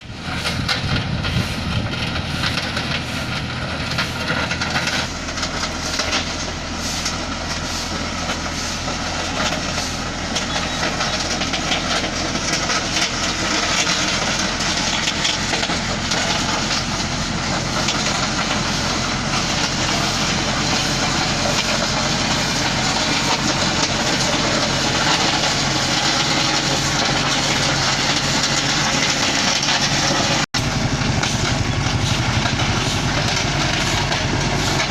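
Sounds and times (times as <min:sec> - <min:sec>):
diesel engine droning: 0:00.0 - 0:34.9
constant broad hiss: 0:00.1 - 0:34.9.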